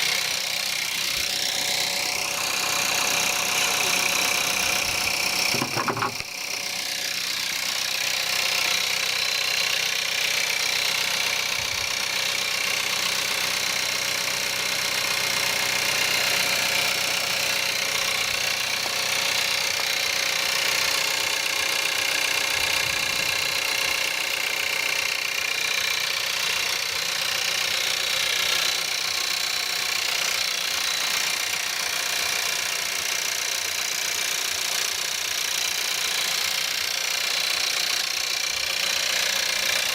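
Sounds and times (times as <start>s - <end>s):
petrol engine running with clatter: 0.0s - 39.9s.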